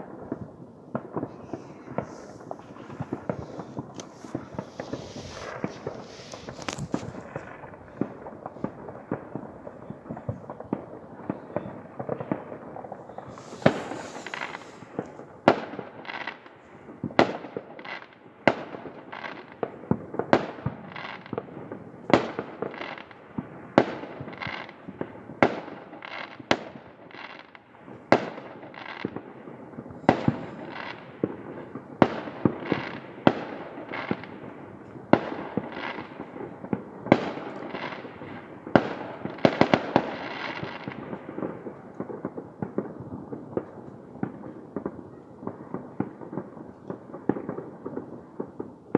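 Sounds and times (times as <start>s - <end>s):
fireworks crackling: 0.0s - 48.8s
fireworks bangs echoing: 0.0s - 48.9s.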